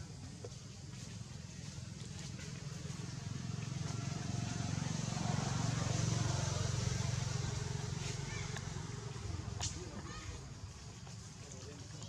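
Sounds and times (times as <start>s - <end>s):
vehicle engine passing by: 0.0s - 11.5s.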